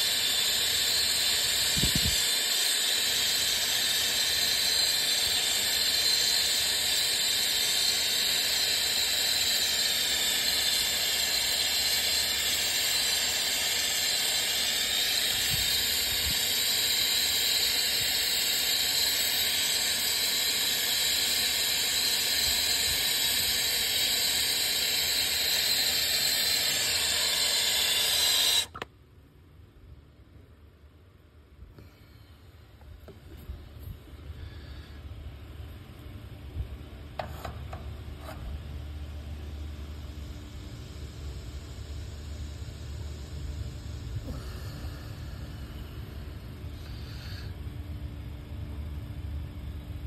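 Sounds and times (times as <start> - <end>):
steady hiss: 0.0 - 28.8, 31.5 - 50.0.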